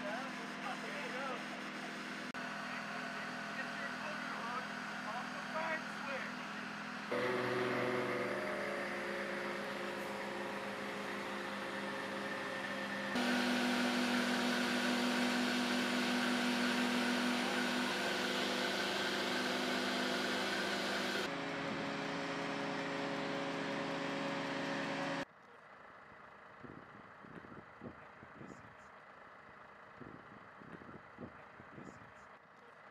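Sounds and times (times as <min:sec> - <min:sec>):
truck pump and engine humming: 0:00.0 - 0:32.8.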